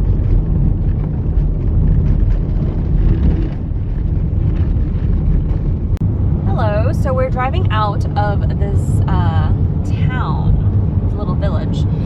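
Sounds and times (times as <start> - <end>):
car rumbling on the move: 0.0 - 12.0
road noise: 0.0 - 12.0
wind on microphone: 0.0 - 12.0.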